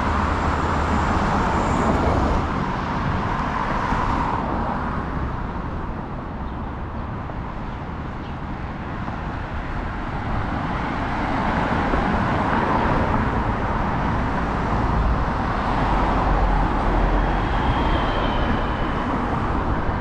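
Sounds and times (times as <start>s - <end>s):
passing cars: 0.0s - 20.0s.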